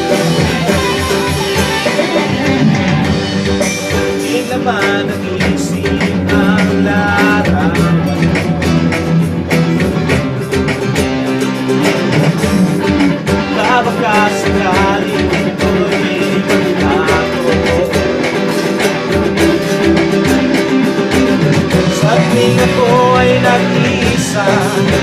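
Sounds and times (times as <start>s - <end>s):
instrumental band music: 0.0s - 25.0s
strummed acoustic guitar: 0.0s - 25.0s.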